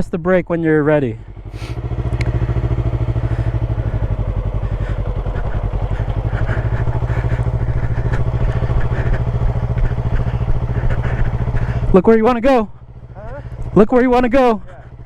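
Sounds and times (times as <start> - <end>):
motorcycle engine idling: 0.6 - 15.0.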